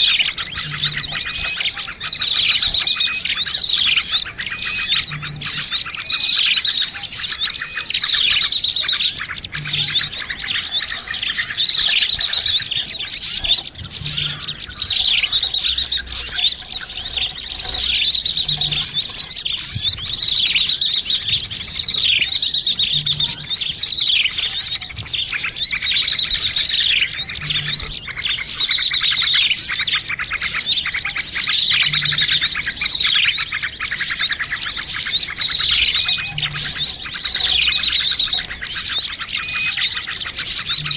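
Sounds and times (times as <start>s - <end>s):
small birds chirping and twittering: 0.0s - 40.9s.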